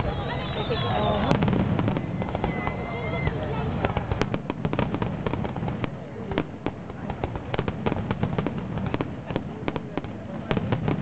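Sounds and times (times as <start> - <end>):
fireworks popping and crackling: 0.0 - 11.0.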